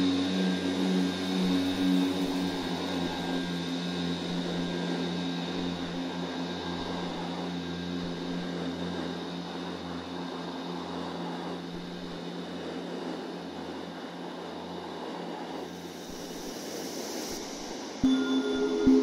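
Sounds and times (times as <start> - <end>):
humming drone with hiss: 0.0 - 19.0.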